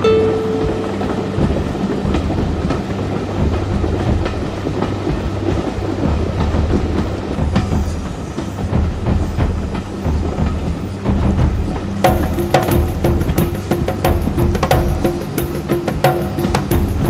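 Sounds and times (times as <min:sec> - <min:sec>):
wheels clicking over rail joints: 0:00.0 - 0:17.0
wheels rumbling on track: 0:00.0 - 0:17.0.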